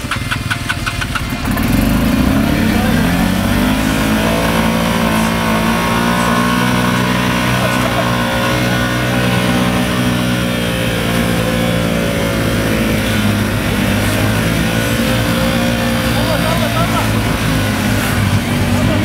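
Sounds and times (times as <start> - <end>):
atv engine revving high: 0.0 - 19.0
wheels spinning in mud: 0.0 - 19.0.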